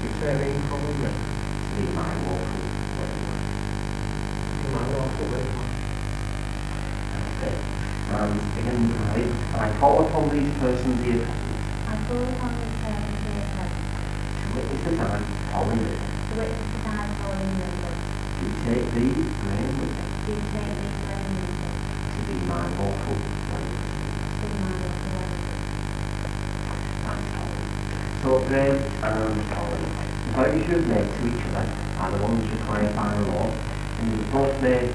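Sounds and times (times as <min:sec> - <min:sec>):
faint pitched sounds: 0:00.0 - 0:34.9
low electrical hum: 0:00.0 - 0:34.9.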